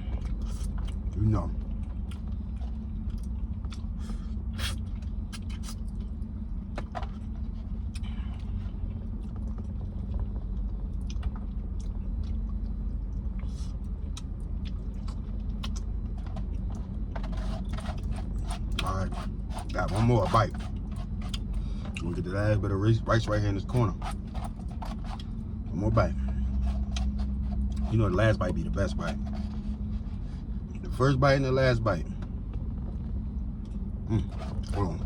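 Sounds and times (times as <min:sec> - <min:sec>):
chewing and eating: 0:00.0 - 0:31.0, 0:32.1 - 0:35.0
steady low rumble: 0:00.0 - 0:35.0.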